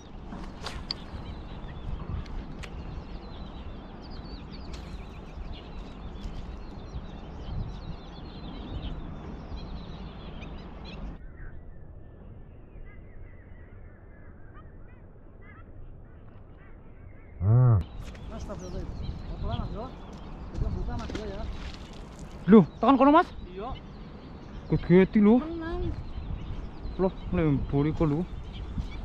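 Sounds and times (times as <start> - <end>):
wind rumble on microphone: 0.0 - 14.1, 17.4 - 29.0
birds chirping: 0.0 - 29.0.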